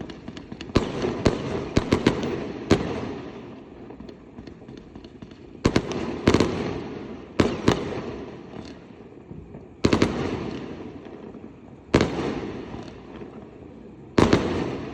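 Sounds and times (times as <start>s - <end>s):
fireworks booming with echo: 0.0s - 14.9s.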